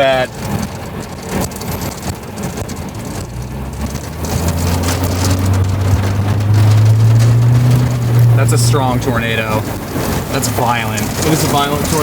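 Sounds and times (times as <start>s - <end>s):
car engine droning: 0.0s - 12.0s
rain hitting car: 0.0s - 12.0s.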